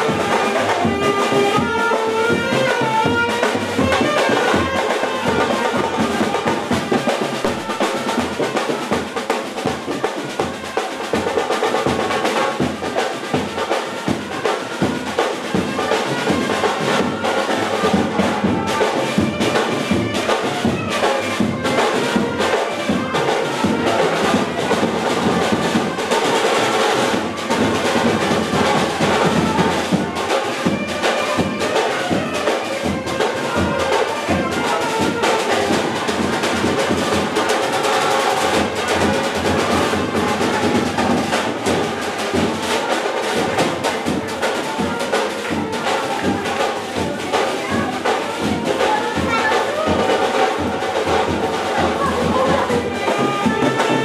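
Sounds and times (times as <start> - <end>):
music with drums and brass: 0.0 - 54.0.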